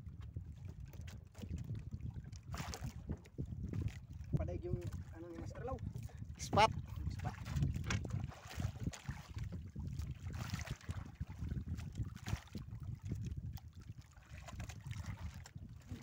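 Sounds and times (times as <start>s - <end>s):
water lapping against boat hull: 0.0s - 16.0s
wind buffeting microphone: 0.0s - 16.0s.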